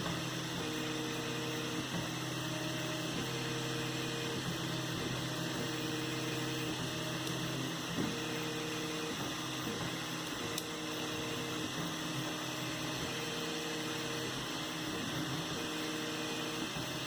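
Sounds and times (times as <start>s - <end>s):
constant printer hum: 0.0s - 17.0s.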